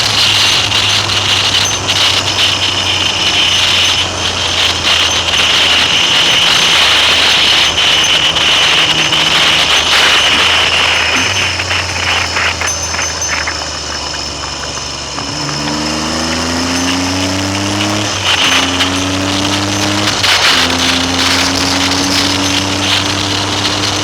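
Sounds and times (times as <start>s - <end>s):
motorcycle engine running: 0.0s - 24.0s
wind rush on microphone: 0.0s - 24.0s.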